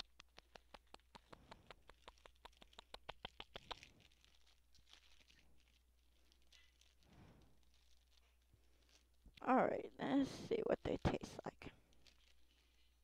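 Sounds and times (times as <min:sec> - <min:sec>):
plastic bag crinkling: 0:00.2 - 0:13.0.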